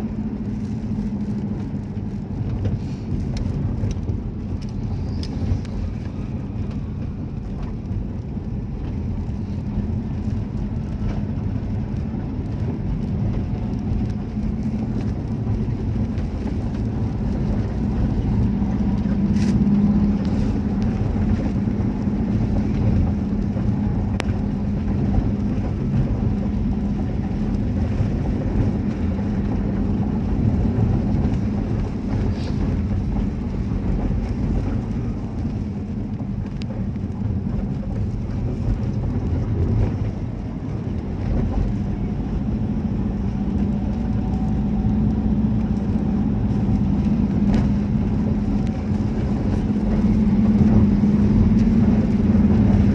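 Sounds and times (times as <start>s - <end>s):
vehicle engine and road noise: 0.0s - 52.9s.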